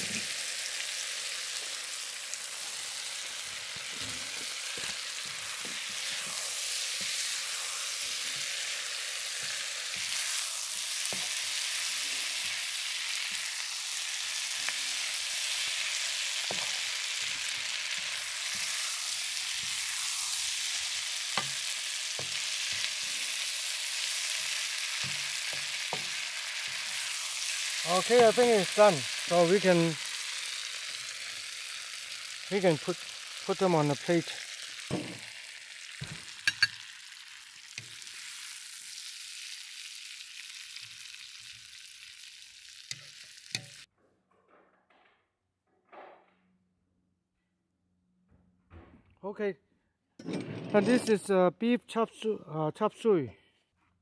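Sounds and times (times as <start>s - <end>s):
meat and vegetables sizzling: 0.0s - 43.9s.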